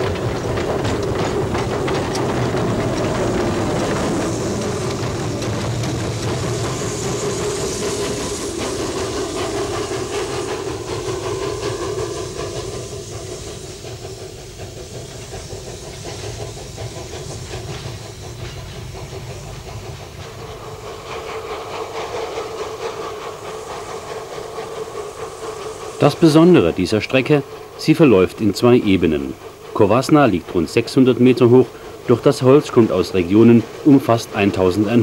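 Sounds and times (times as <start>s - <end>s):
steam locomotive hissing: 0.0s - 35.0s
wagons clicking over rails: 0.0s - 35.0s.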